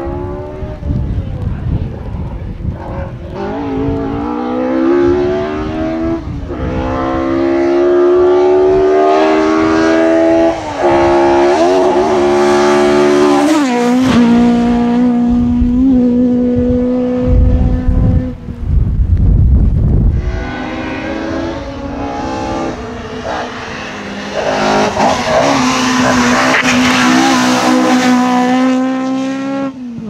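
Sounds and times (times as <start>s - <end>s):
rally car engine revving through gears: 2.8s - 18.4s, 20.2s - 30.0s.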